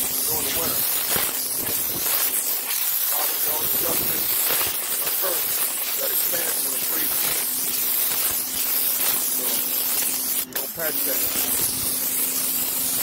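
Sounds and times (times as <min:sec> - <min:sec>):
pressure washer spraying concrete: 0:00.0 - 0:13.0.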